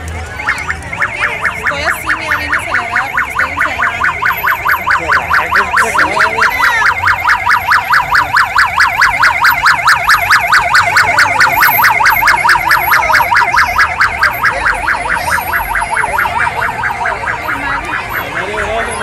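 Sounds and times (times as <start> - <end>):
electronic siren yelping: 0.2 - 19.0.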